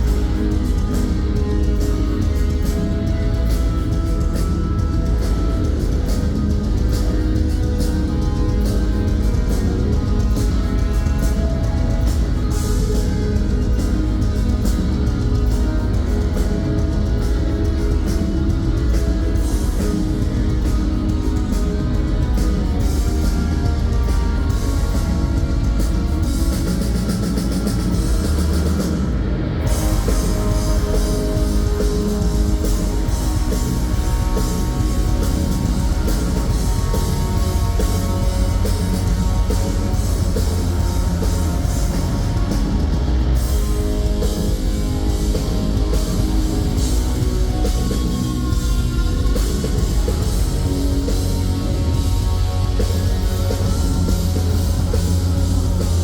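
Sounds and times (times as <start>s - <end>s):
bass guitar: 0.0s - 56.0s
distorted electric guitar: 0.0s - 56.0s
pounding drum kit: 0.0s - 56.0s.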